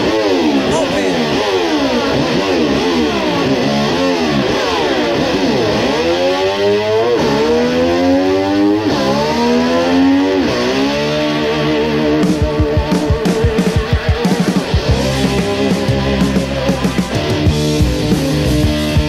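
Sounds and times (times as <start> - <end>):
electric slide guitar: 0.0 - 19.0.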